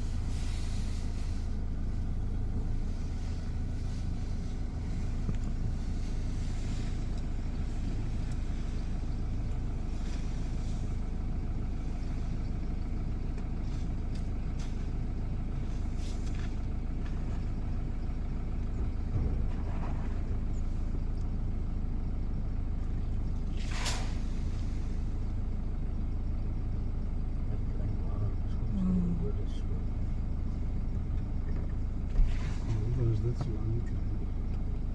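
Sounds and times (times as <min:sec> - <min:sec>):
vehicle engine idling: 0:00.0 - 0:34.9.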